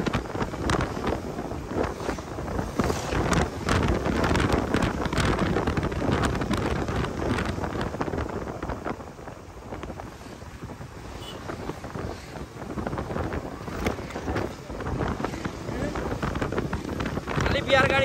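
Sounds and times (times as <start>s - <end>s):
road noise: 0.0s - 18.0s
wind buffeting microphone: 0.0s - 18.0s.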